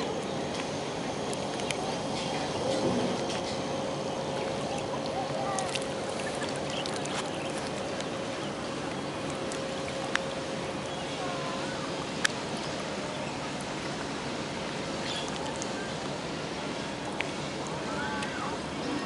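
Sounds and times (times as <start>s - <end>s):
continuous hum: 0.0s - 19.0s.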